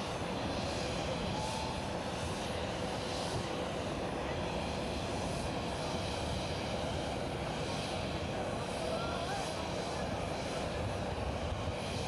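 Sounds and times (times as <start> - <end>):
jet airliner engine rushing: 0.0 - 12.0.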